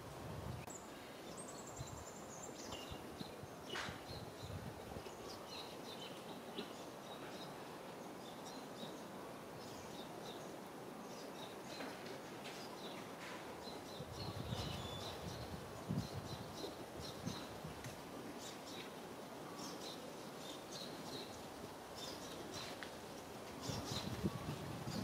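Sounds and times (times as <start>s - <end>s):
faint steady background hiss: 0.0s - 25.0s
small birds chirping: 0.6s - 25.0s.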